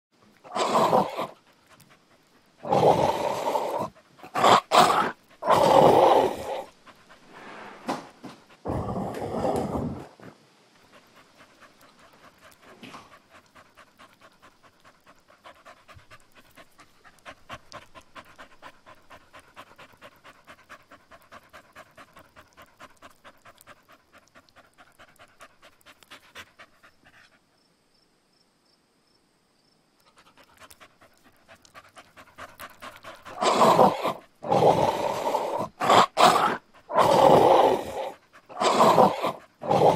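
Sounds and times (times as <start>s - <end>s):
dogs growling: 0.4s - 27.2s, 30.1s - 39.9s
dog panting rapidly: 0.7s - 8.8s, 10.0s - 27.6s, 30.0s - 39.9s.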